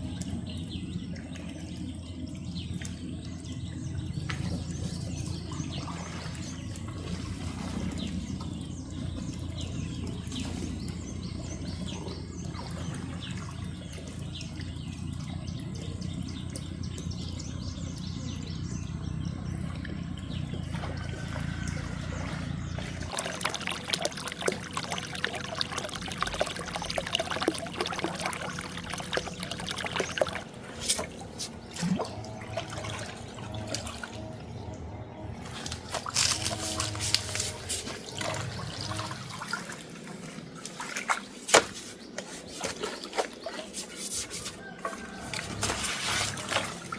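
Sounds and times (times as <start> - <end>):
water splashing: 0.0 - 46.9
water trickling: 0.0 - 46.9.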